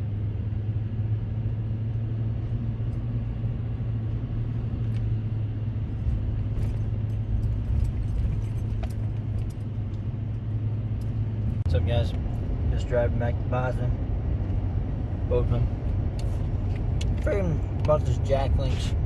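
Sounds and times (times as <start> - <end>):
car engine drone and road noise: 0.0 - 19.0.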